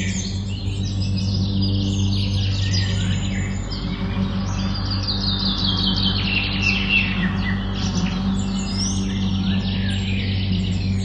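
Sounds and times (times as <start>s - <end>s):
songbirds singing and chirping: 0.0s - 11.0s
steady low hum: 0.0s - 11.0s.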